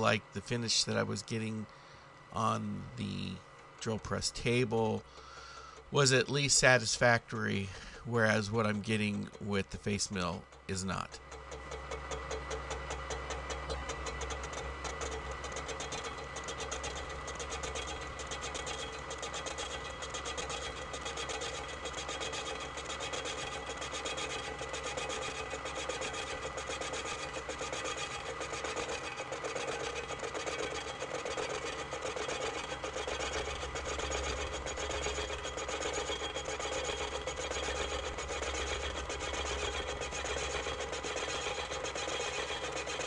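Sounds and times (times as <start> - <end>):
milling cutter chatter: 8.2 - 43.0.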